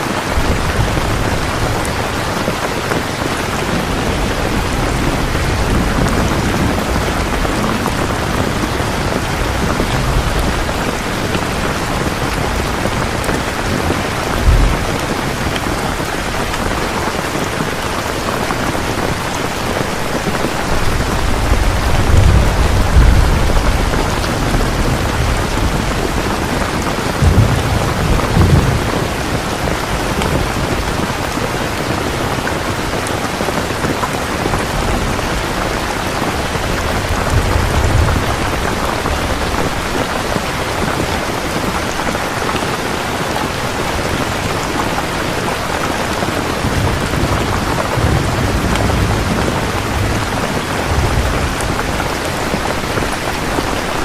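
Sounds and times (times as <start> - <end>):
heavy rain falling: 0.0 - 54.0
low thunder rumbling: 0.3 - 42.1, 43.7 - 54.0.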